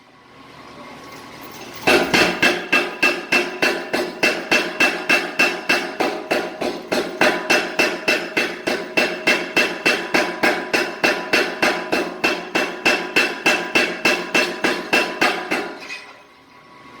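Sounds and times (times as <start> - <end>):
hammer on hot steel on anvil: 1.9 - 16.2.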